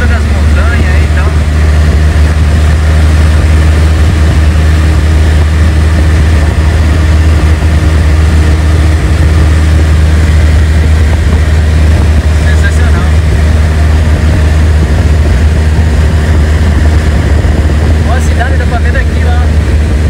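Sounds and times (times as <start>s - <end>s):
plane engine and propeller drone: 0.0s - 20.0s.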